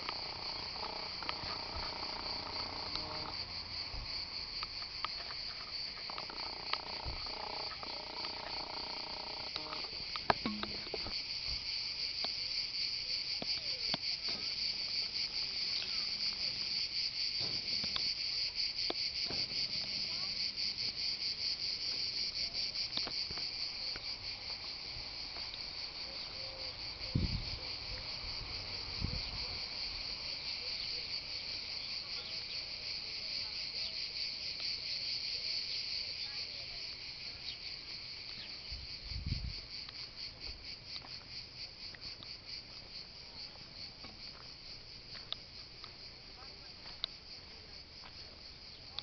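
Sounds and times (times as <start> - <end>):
cicadas buzzing: 0.0 - 49.0.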